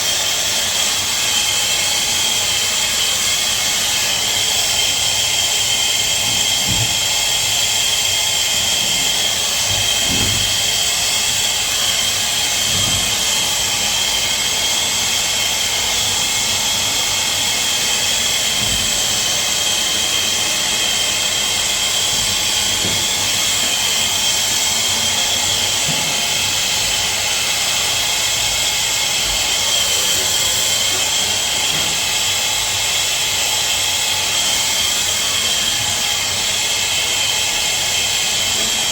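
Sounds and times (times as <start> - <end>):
gas torch hissing: 0.0 - 38.9.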